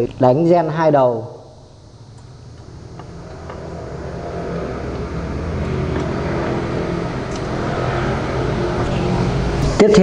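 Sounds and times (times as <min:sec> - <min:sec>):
vehicle engine running: 0:01.7 - 0:10.0.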